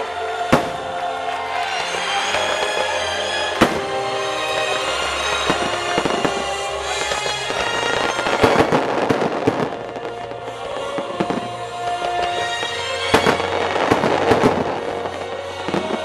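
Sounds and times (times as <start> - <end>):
firework crackles: 0.0 - 16.0
music: 0.0 - 16.0.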